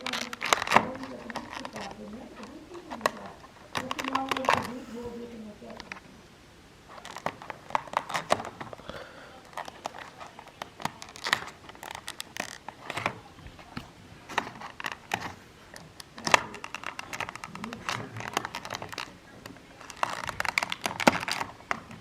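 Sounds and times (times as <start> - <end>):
plastic and cardboard crinkling: 0.0 - 6.2, 6.8 - 22.0.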